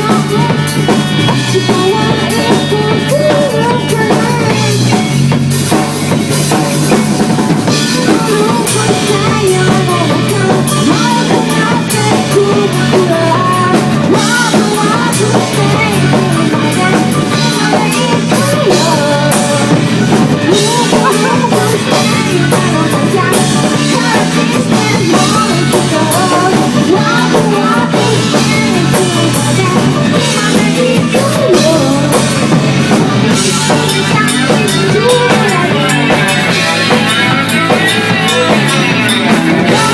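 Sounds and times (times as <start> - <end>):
drum kit beat: 0.0 - 39.9
rock music: 0.0 - 39.9.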